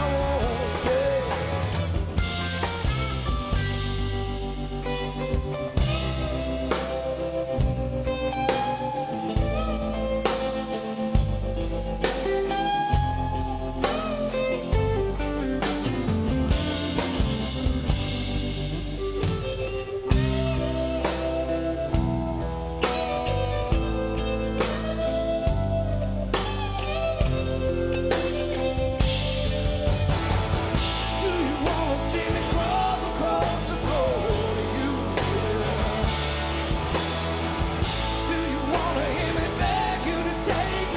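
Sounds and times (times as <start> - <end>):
bass and drums: 0.0 - 40.9
electric guitar lead: 0.0 - 40.9
rock band playing: 0.0 - 40.9.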